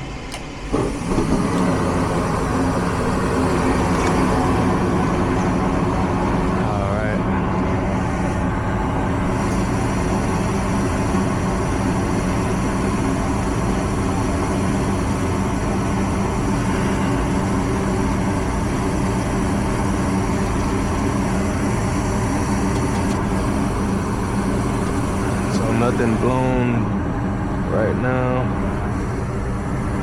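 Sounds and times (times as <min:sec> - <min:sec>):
furnace motor drone: 0:00.0 - 0:30.0.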